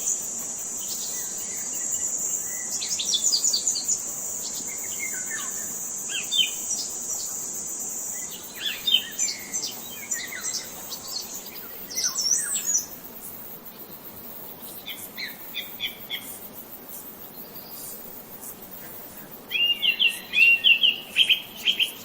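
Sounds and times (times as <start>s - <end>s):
high-pitched insect buzz: 0.0s - 22.0s.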